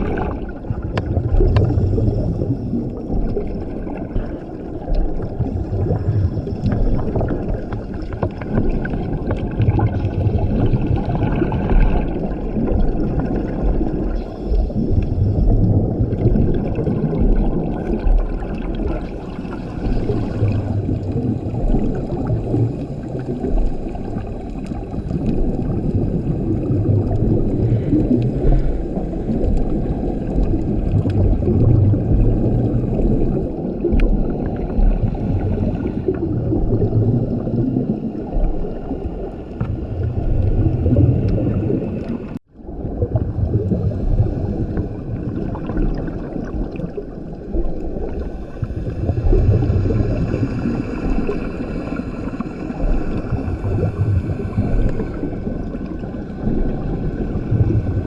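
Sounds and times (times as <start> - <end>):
bubbly gurgling underwater breathing: 0.0 - 58.0
exhaled bubble bursts: 0.0 - 58.0.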